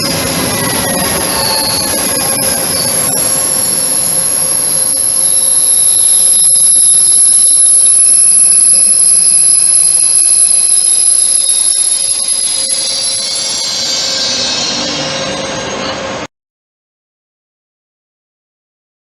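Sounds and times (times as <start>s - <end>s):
train wheels squealing on rails: 0.0s - 16.3s.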